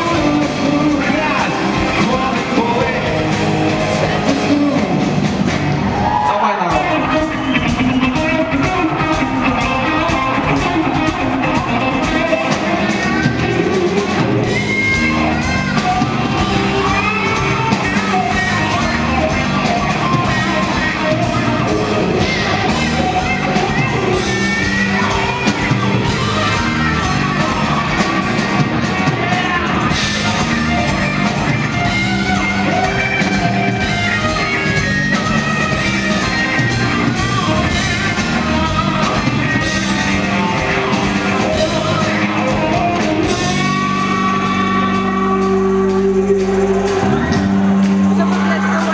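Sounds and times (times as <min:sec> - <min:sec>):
bass guitar: 0:00.0 - 0:48.9
drums: 0:00.0 - 0:48.9
electric guitar: 0:00.0 - 0:48.9
person singing: 0:00.0 - 0:48.9.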